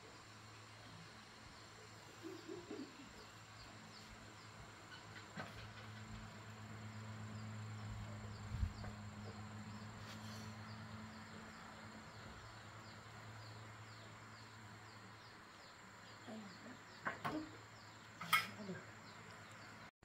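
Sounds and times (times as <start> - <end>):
faint low hum: 0.0 - 19.9
insects chirping: 0.0 - 19.9.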